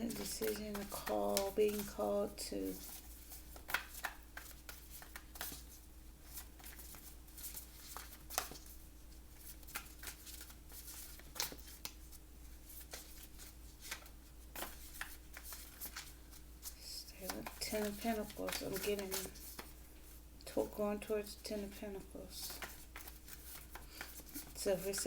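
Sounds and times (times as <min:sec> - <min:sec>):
cards being shuffled: 0:00.0 - 0:08.8, 0:09.4 - 0:19.8, 0:22.4 - 0:25.0.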